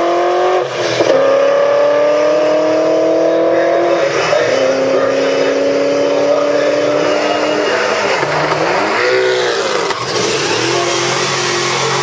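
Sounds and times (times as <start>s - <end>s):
racing car engines at full throttle: 0.0s - 12.0s.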